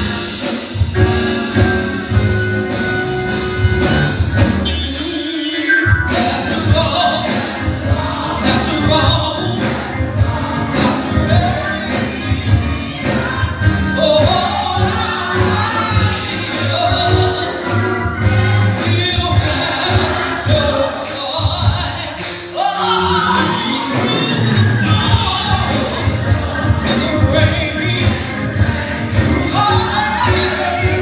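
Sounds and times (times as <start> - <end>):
gospel singing with band: 0.0 - 31.0.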